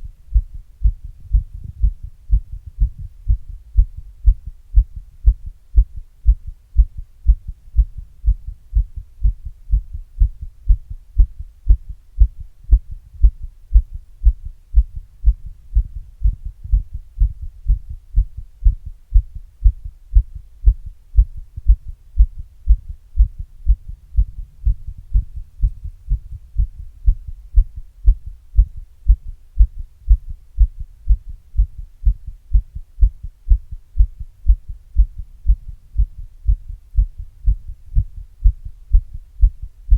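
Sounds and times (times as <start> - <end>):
muffled heartbeat thumps: 0.0 - 39.9.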